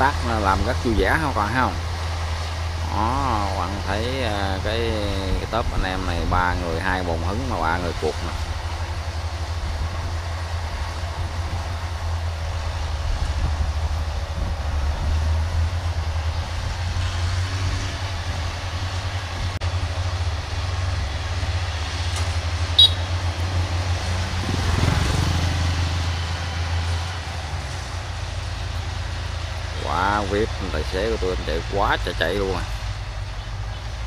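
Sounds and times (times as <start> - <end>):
combine harvester engine hum: 0.0 - 34.0.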